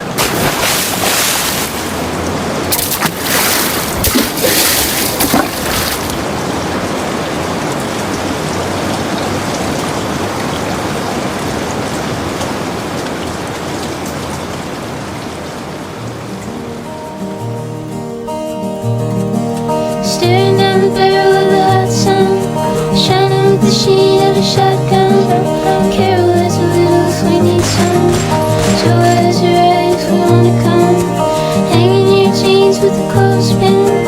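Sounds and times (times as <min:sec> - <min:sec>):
rushing hiss with crackling: 0:00.0 - 0:34.0.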